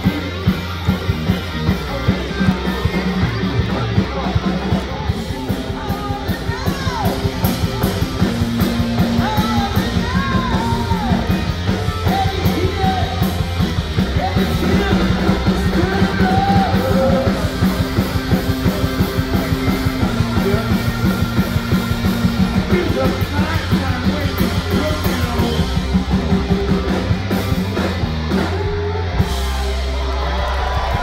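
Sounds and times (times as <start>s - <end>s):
bass guitar: 0.0s - 31.0s
drum kit beat: 0.0s - 31.0s
electric guitar: 0.0s - 31.0s.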